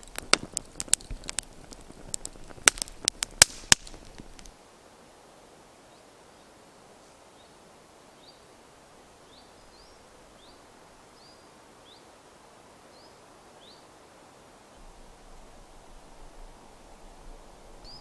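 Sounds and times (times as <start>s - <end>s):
faint woodland hiss: 3.3s - 18.0s.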